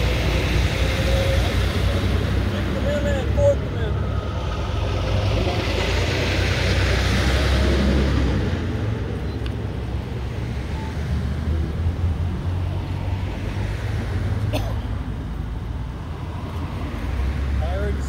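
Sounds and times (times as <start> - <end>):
low engine rumble: 0.0 - 18.0
road traffic passing: 0.0 - 18.0.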